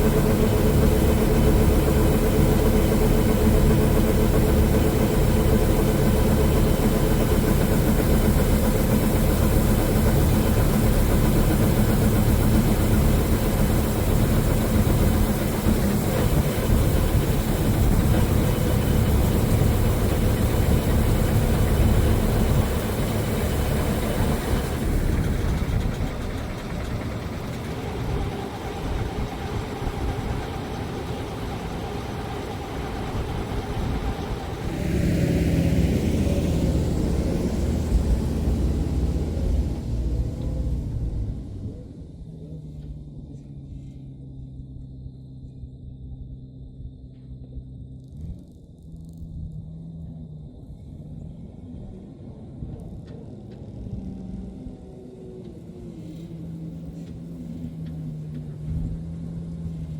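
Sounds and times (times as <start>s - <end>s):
farm machinery engine running: 0.0s - 41.8s, 52.6s - 59.9s.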